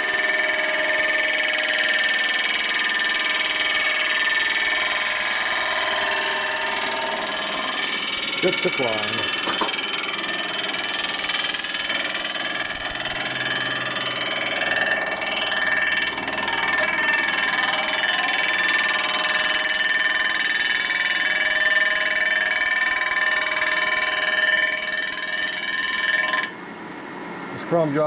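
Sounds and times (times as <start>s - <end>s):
metal cutting tool screeching: 0.0s - 26.5s.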